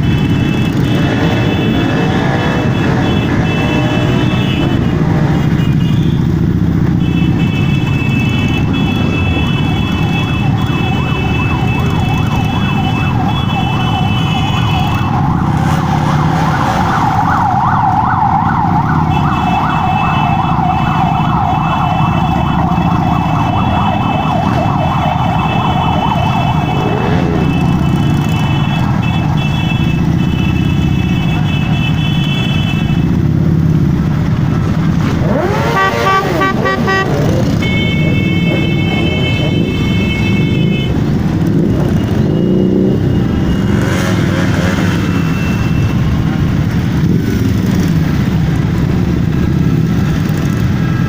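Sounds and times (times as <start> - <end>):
vehicle siren: 0.0 - 33.5, 34.2 - 51.0
vehicle engines rumbling: 0.0 - 51.0.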